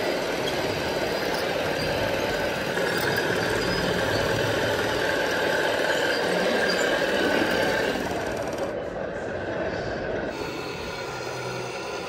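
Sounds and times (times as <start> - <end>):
model machinery high whine: 0.0 - 9.0, 10.2 - 12.0
dense mechanical hum: 0.0 - 12.0.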